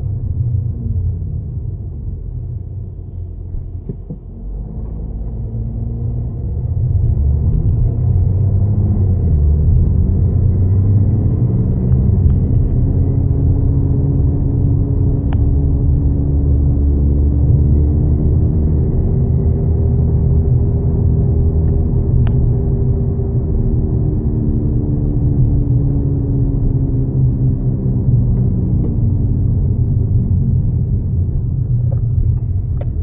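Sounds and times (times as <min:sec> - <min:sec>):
wheel bearing rumbling drone: 0:00.0 - 0:33.0.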